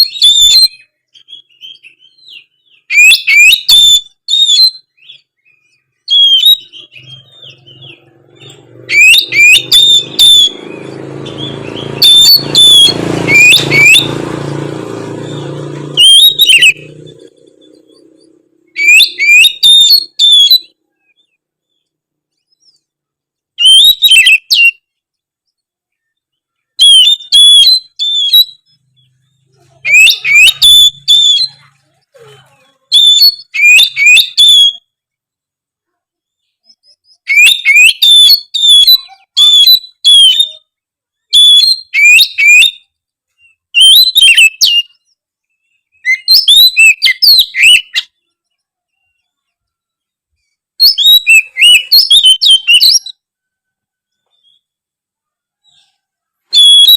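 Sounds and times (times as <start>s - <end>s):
magpie-robin singing: 0.0s - 23.0s, 23.6s - 34.9s, 36.2s - 53.3s, 55.6s - 56.9s.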